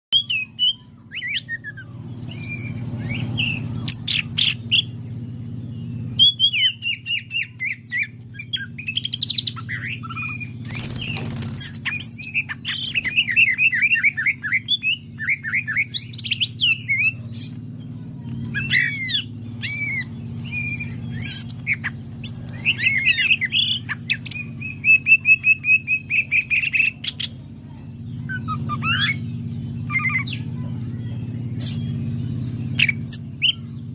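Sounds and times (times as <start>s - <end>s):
bird singing fast chirps and trills: 0.1s - 33.9s
steady low hum: 0.2s - 33.9s.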